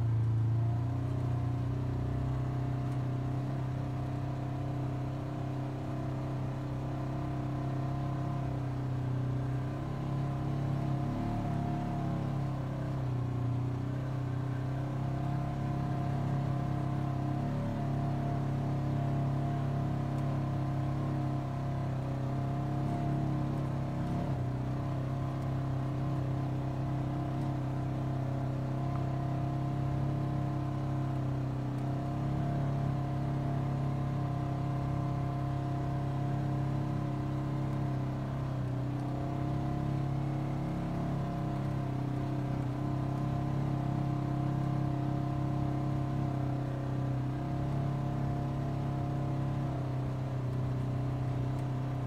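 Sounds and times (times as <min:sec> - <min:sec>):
off-road vehicle engine drone: 0:00.0 - 0:52.0.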